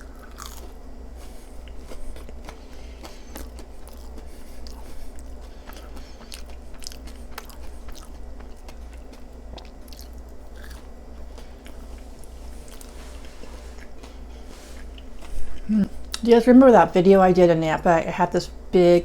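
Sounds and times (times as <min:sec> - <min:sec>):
chewing and biting food: 0:00.0 - 0:16.2
low steady hum: 0:00.0 - 0:19.0.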